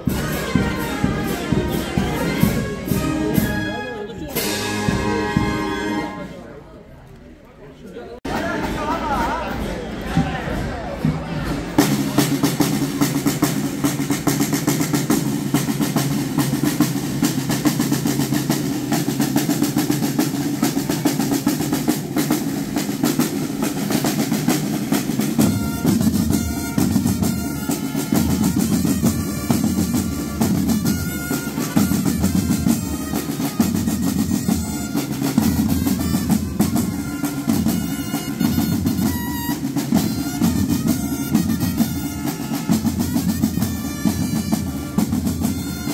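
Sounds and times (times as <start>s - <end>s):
snare and bass drums rolling: 0.0s - 6.2s, 8.3s - 45.9s.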